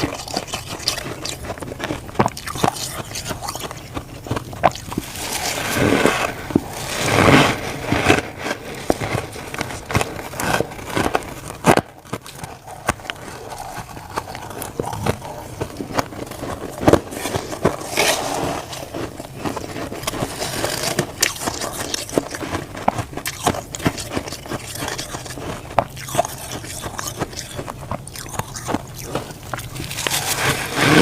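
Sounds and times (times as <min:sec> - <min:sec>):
frost being chewed crunching: 0:00.0 - 0:31.0.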